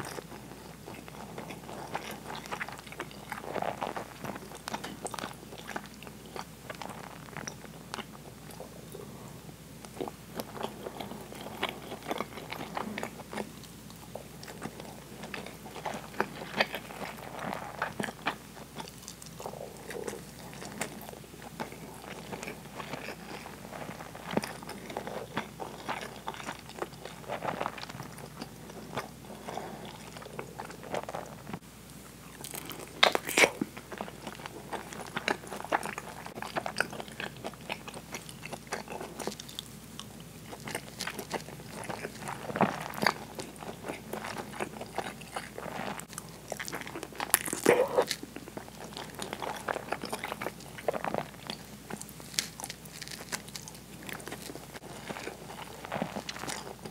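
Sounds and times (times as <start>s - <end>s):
person chewing food: 0.0s - 31.6s, 32.2s - 56.9s.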